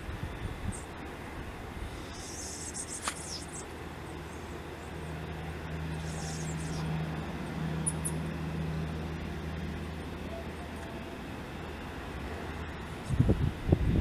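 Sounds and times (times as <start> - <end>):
jet engines humming: 0.0 - 14.0.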